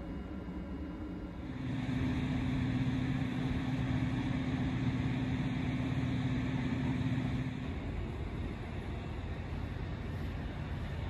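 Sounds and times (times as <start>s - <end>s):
electric locomotive humming: 0.0s - 11.0s.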